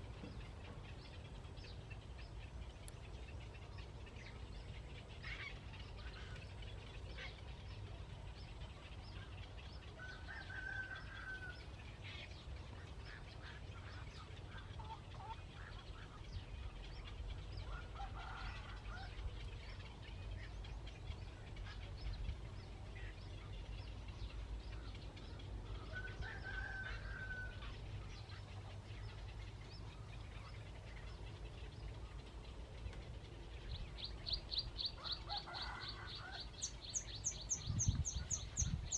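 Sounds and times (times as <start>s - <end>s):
bird chirps and calls: 0.0s - 38.9s.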